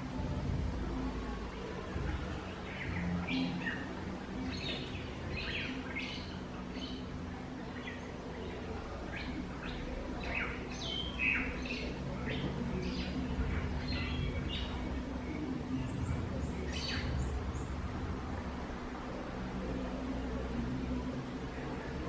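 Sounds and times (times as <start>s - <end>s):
low steady hum: 0.0s - 22.0s
wild birds chirping: 0.0s - 22.0s.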